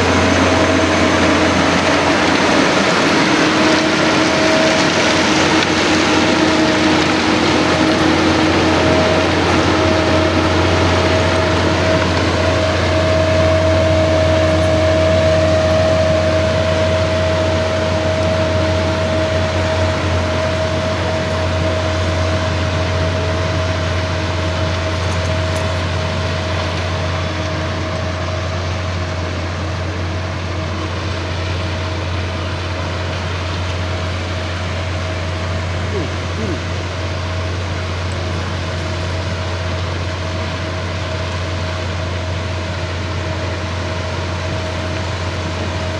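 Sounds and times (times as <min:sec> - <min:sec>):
diesel engine droning with whine: 0:00.0 - 0:45.9.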